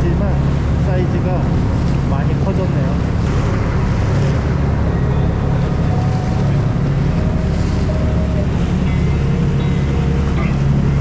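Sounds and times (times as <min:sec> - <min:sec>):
boat engine running: 0:00.0 - 0:11.0
sea washing around hull: 0:00.0 - 0:11.0
wind buffeting microphone: 0:00.0 - 0:11.0.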